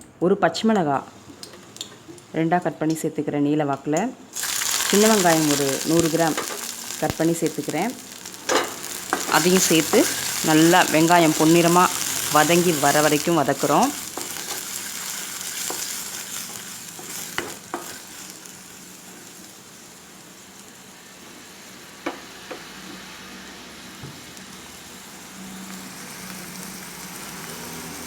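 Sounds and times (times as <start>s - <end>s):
food sizzling in hot oil: 1.0s - 3.0s, 4.3s - 28.0s.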